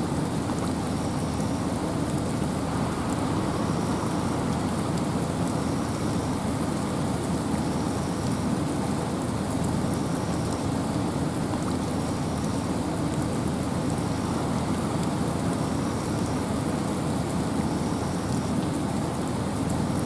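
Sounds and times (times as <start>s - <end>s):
rain falling through forest: 0.0s - 20.0s
wind: 0.0s - 20.0s
fine raindrop ticks: 0.2s - 20.0s.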